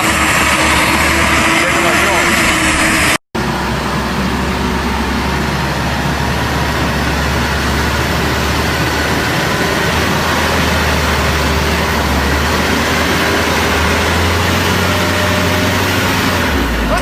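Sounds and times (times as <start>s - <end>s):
heavy truck engine running: 0.0s - 17.0s.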